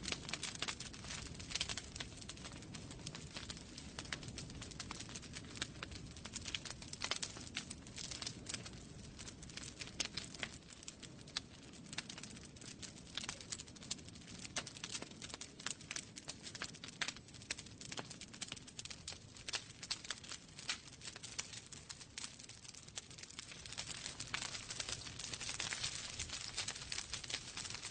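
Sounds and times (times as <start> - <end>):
low rumble of flames: 0.0 - 27.9
wood fire crackling: 0.0 - 27.9.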